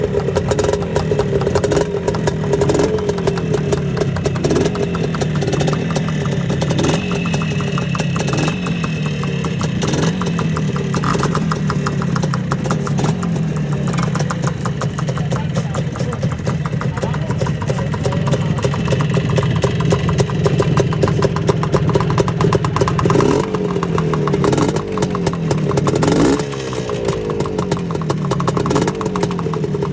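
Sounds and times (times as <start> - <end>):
two-stroke motorcycle engine idling: 0.0 - 29.9.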